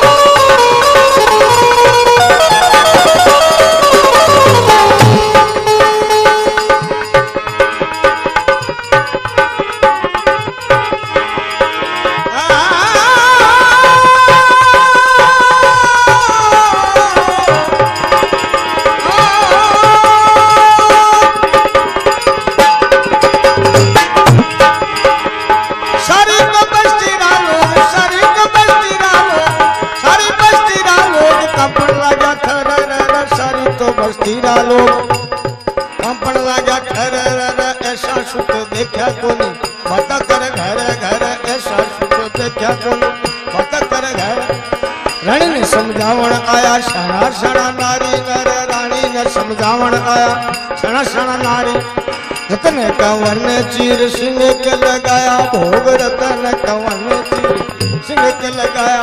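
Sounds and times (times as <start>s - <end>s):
hand drum beat: 0.0s - 11.5s, 12.6s - 59.0s
harmonium chords: 0.0s - 59.0s.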